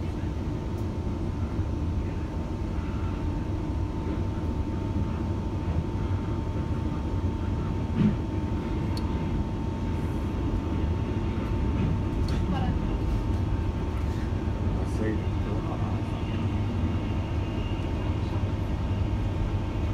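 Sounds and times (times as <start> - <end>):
train rumbling along track: 0.0 - 19.9.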